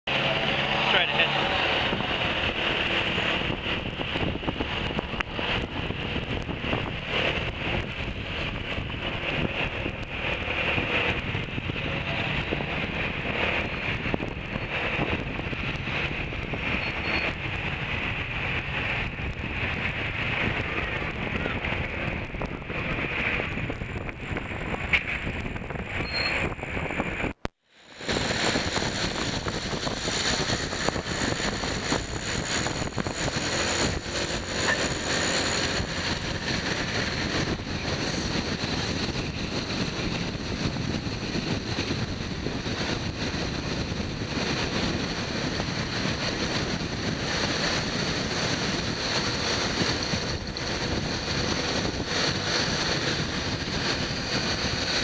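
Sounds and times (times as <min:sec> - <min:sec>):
road noise: 0:00.0 - 0:55.0
wind on microphone: 0:00.1 - 0:55.0.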